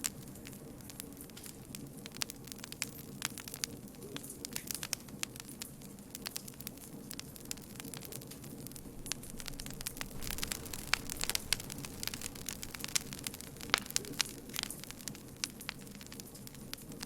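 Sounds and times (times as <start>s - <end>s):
campfire burning: 0.0s - 17.0s
wood crackling and popping: 0.0s - 17.0s.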